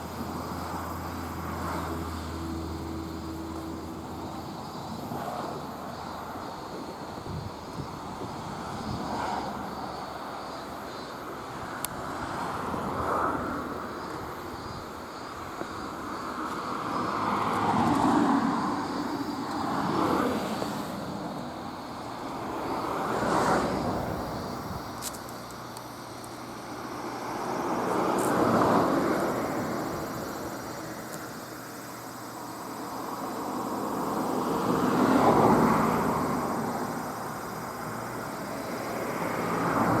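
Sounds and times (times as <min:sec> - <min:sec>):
road vehicles passing: 0:00.0 - 0:40.0.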